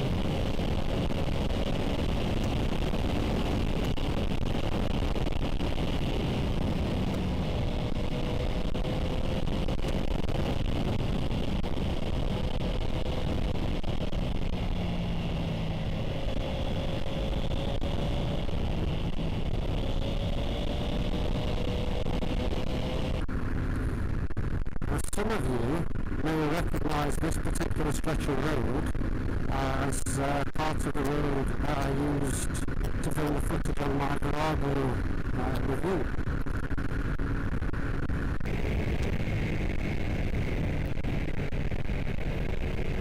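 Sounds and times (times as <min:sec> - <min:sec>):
motorcycle engine cruising: 0:00.0 - 0:43.0
wind rush: 0:00.0 - 0:43.0.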